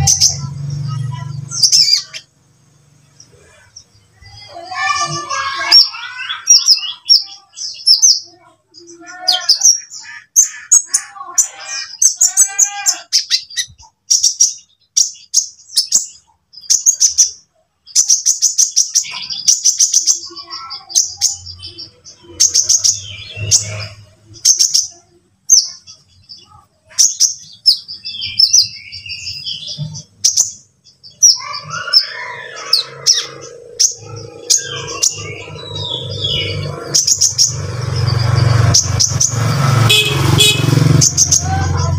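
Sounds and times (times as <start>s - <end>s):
bird chirping and trilling: 0.0s - 41.9s.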